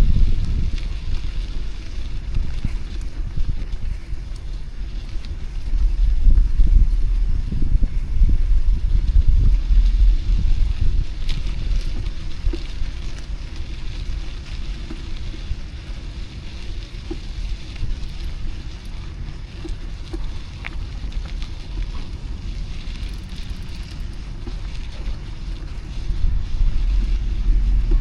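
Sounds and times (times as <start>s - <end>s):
small clicks and ticks: 0.0s - 28.0s
wind rumbling on microphone: 0.0s - 28.0s.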